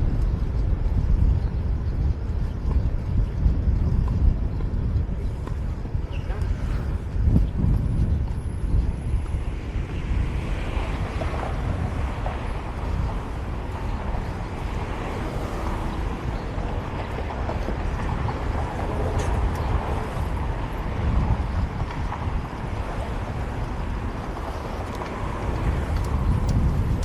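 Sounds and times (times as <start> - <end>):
low road rumble: 0.0 - 27.0
wind noise on microphone: 0.0 - 27.0.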